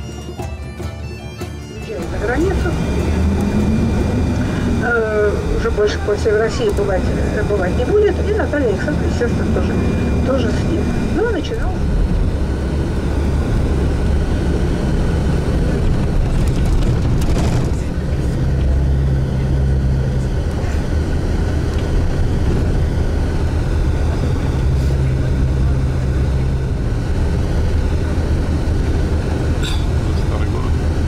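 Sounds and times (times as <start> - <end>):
vehicle engine and road drone: 0.0 - 31.0.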